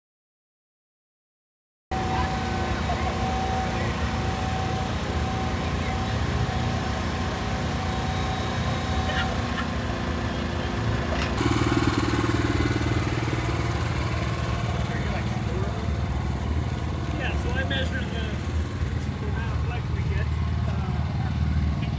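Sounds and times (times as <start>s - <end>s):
car engine running: 1.9s - 21.9s.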